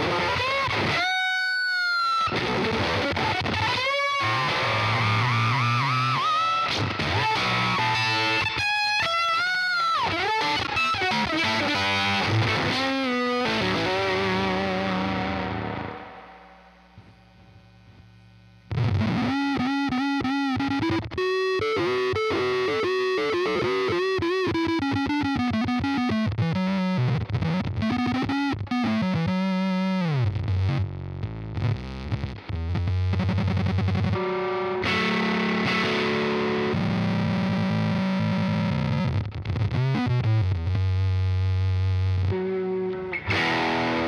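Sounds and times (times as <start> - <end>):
fuzzy synth-like electric guitar: 0.0 - 44.0.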